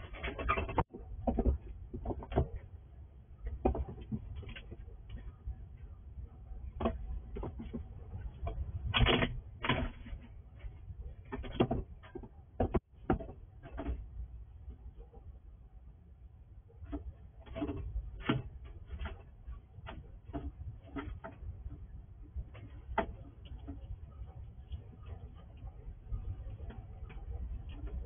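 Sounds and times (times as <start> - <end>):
squirrel clicking and scratching: 0.0 - 2.8, 3.4 - 15.2, 16.8 - 28.0.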